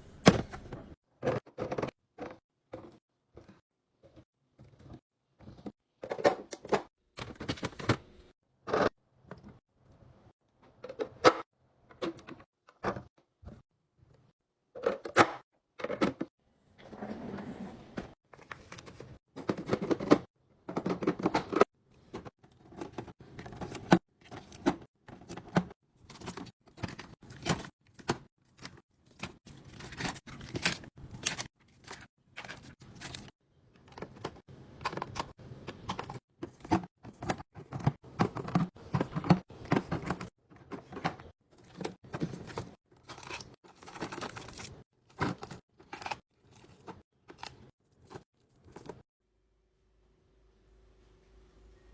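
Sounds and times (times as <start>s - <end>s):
kitchen items clattering: 0.0s - 8.9s, 14.8s - 49.0s.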